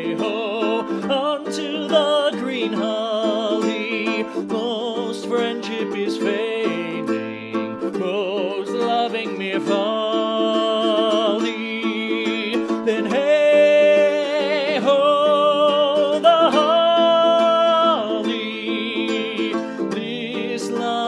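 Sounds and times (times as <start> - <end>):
person singing wavering melody: 0.0 - 21.0
plucked string accompaniment: 0.0 - 21.0.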